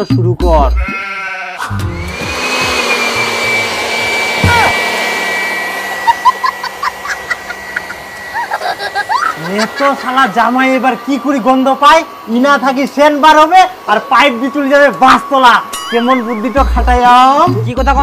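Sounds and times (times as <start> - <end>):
electric air blower whining: 1.6 - 18.0.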